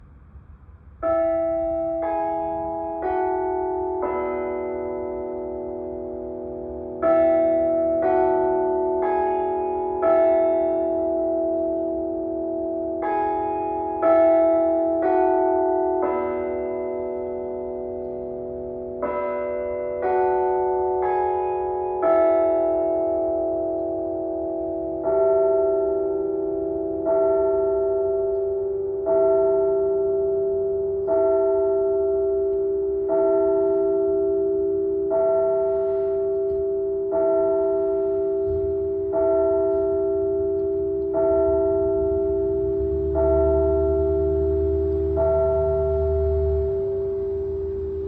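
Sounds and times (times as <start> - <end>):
clock bell striking: 1.0 - 48.0.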